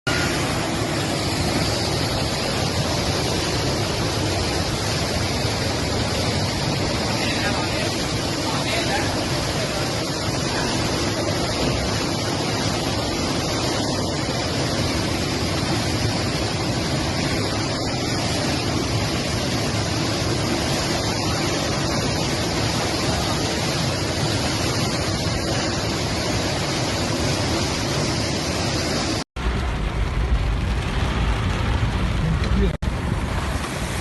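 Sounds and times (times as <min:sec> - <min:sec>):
floodwater rushing: 0:00.0 - 0:34.0
low rumbling noise: 0:00.1 - 0:34.0.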